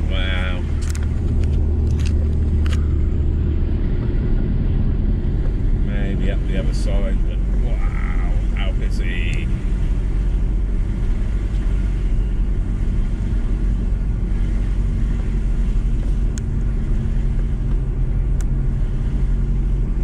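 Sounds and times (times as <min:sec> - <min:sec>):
van engine and road noise: 0:00.0 - 0:20.0.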